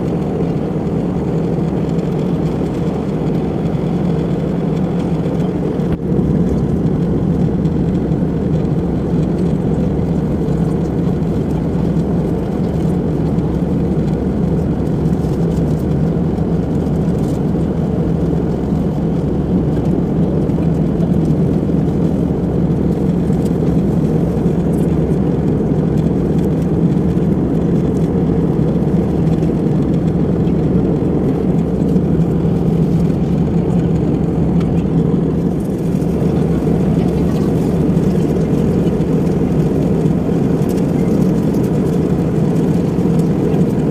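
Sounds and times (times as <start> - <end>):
airliner cabin noise: 0.0 - 43.9.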